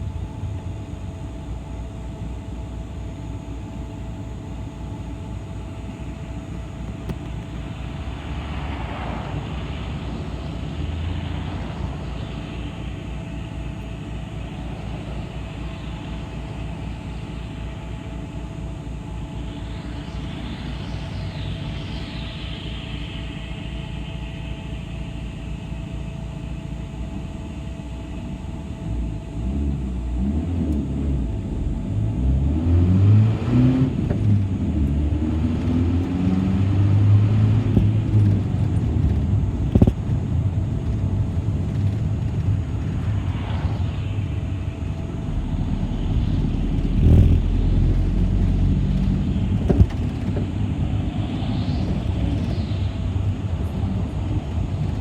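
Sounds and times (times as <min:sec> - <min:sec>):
bus engine accelerating: 0:00.0 - 0:55.0
road rumble: 0:00.0 - 0:55.0.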